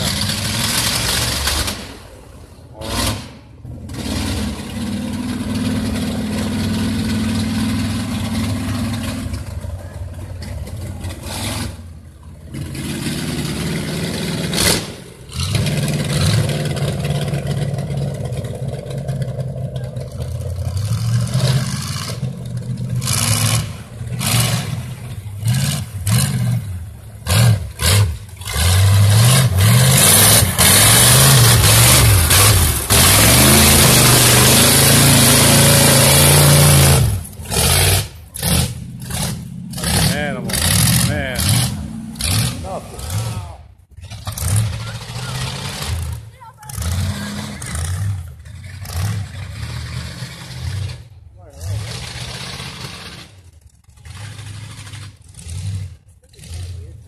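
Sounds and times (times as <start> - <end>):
off-road truck engines revving: 0.0 - 57.0.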